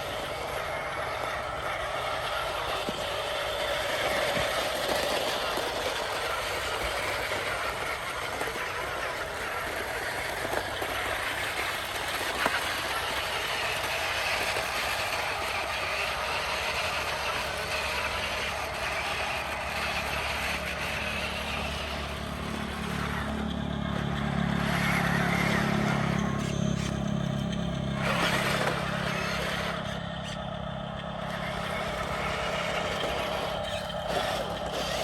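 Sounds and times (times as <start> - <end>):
electric motor and gears whirring: 0.0 - 35.0.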